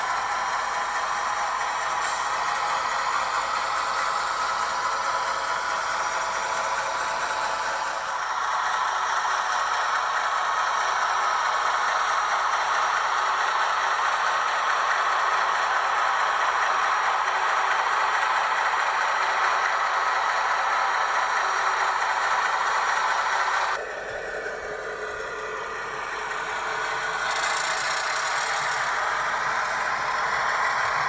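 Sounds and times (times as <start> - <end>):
quiet engine idle: 0.0 - 31.0
rattly diesel engine sound: 0.0 - 31.0.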